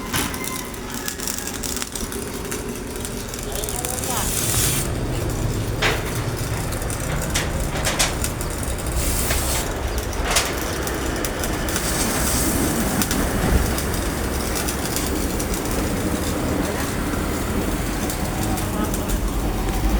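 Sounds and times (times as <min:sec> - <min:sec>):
mechanical rumble: 0:00.0 - 0:19.9.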